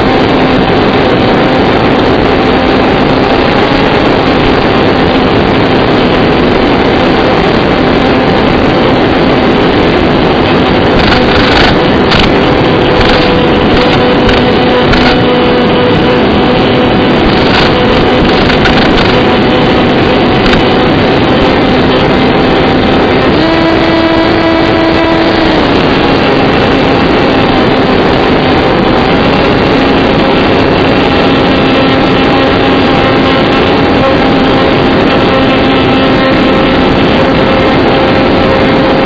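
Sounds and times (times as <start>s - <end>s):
electric motor and propeller droning: 0.0s - 39.0s
rush of noise: 0.0s - 39.0s.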